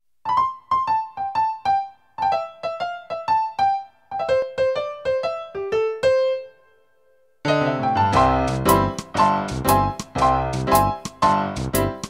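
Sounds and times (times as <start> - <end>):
keyboard playing piano melody: 0.3 - 12.0.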